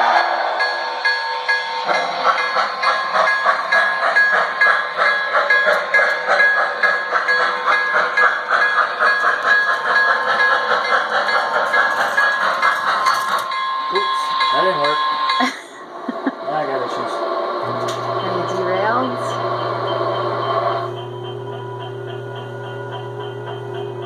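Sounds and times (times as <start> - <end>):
model train rhythmic clatter: 0.0 - 24.0.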